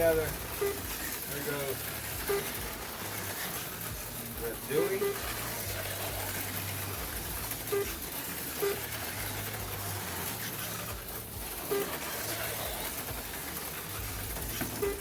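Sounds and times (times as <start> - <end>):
slot cars running on track: 0.0 - 15.0.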